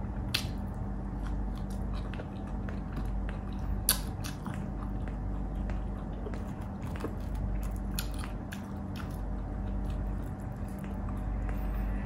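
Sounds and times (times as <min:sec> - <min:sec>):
person crunching and chewing: 0:00.2 - 0:11.9.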